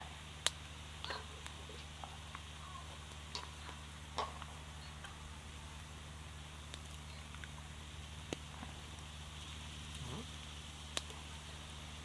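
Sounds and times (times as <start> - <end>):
campfire crackling: 0.0 - 12.0
steady low hum: 0.0 - 12.0.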